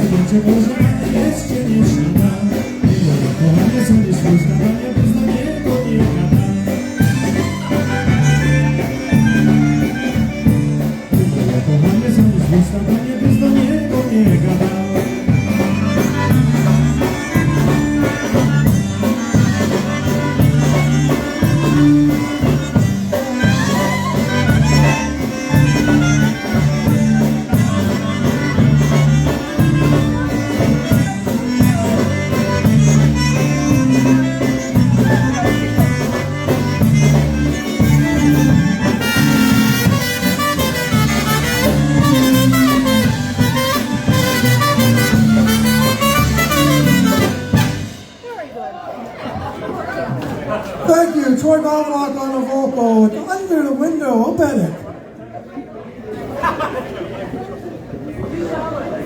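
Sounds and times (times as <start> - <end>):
polka band playing: 0.0 - 55.0.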